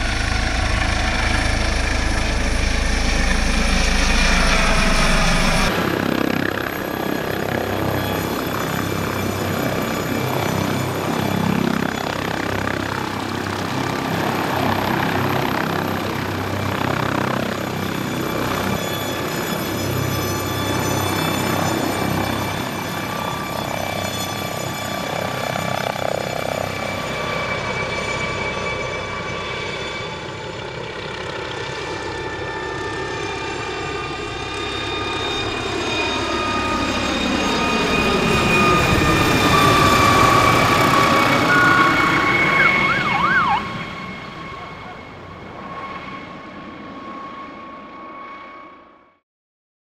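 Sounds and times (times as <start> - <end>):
helicopter flying past: 0.0 - 49.2.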